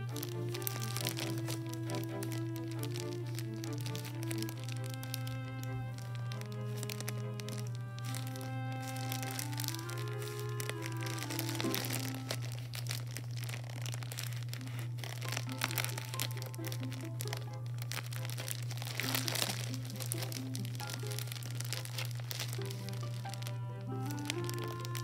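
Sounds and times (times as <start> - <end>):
background music: 0.0 - 12.9, 15.1 - 25.0
plastic bag of beads crinkling: 0.0 - 25.0.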